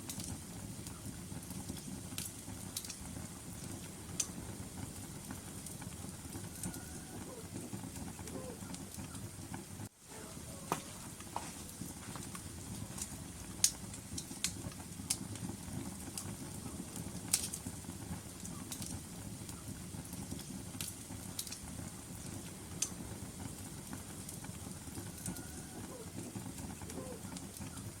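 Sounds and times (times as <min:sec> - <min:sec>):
fire rumbling in fireplace: 0:00.0 - 0:28.0
wood crackles and pops: 0:00.0 - 0:28.0.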